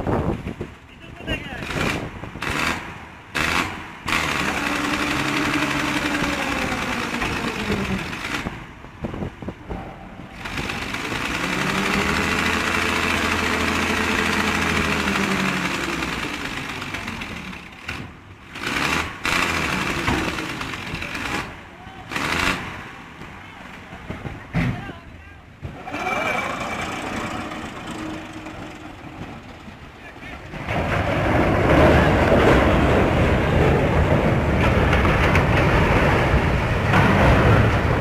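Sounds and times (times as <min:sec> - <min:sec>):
engine running: 0:01.5 - 0:24.6, 0:25.5 - 0:38.0.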